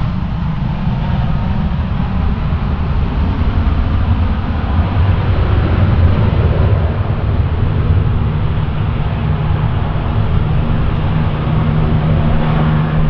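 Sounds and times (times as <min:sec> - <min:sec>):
airliner engine rumble and hiss: 0:00.0 - 0:13.0.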